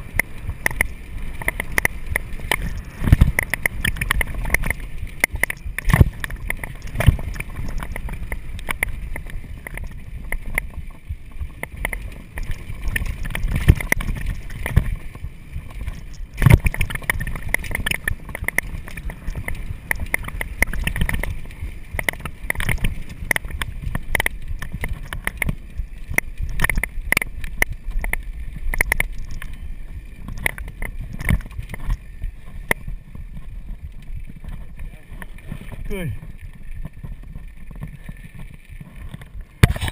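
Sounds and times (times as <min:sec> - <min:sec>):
bike knocks and rattles: 0:00.0 - 0:29.6, 0:30.2 - 0:39.9
tyres running on dirt: 0:00.0 - 0:39.9
wind rumbling on microphone: 0:00.0 - 0:39.9.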